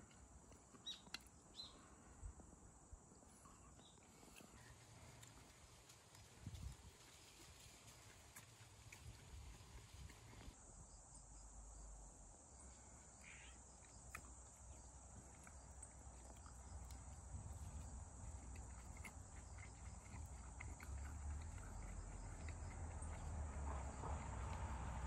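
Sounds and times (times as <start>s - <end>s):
insects chirring: 2.8s - 25.0s.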